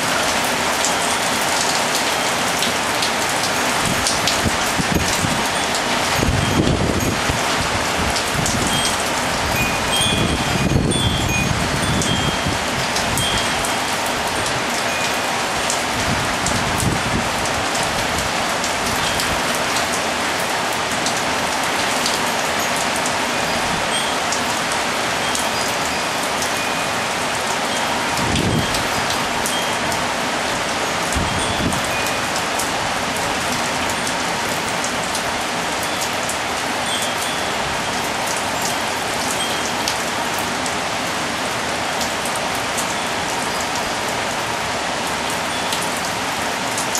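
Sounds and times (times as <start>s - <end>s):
rain on hard surfaces: 0.0s - 46.9s
wind chimes: 0.0s - 46.9s.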